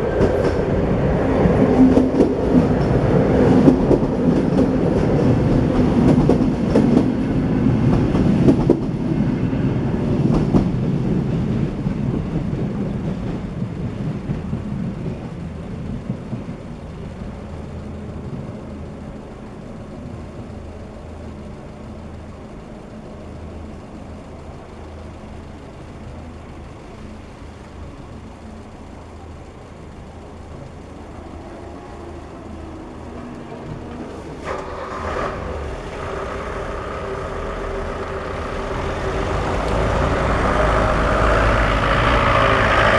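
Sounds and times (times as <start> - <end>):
train rumble and wheel clatter: 0.0 - 42.9.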